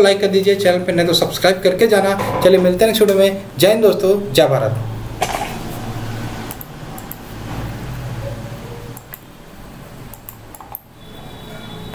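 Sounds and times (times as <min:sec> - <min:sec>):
room noise hum and hiss: 0:00.0 - 0:11.8.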